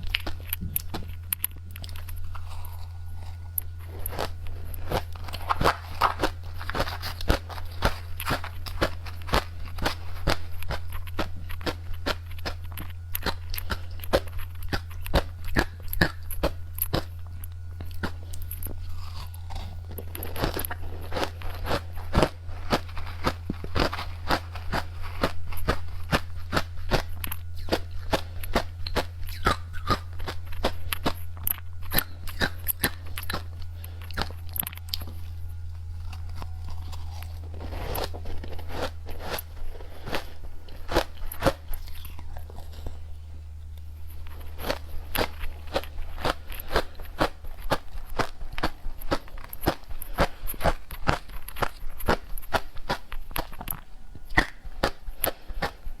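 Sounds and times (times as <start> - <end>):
chewing crunchy candy: 0.0 - 56.0
steady low hum: 0.0 - 56.0.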